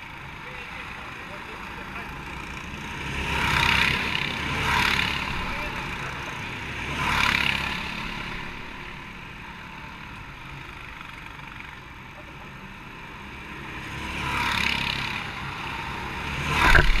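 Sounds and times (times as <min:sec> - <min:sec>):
go-kart engine idling: 0:00.0 - 0:17.0.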